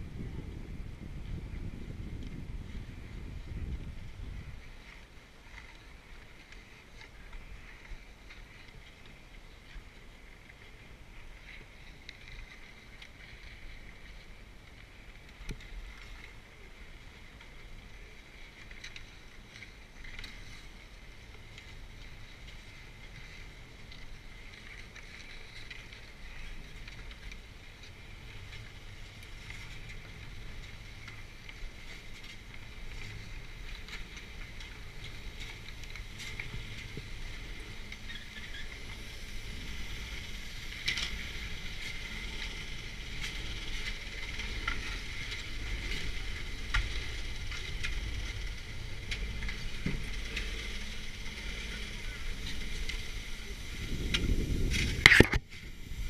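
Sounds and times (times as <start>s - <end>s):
chairlift clacks: 0.0s - 56.0s
chairlift machinery humming: 0.0s - 56.0s.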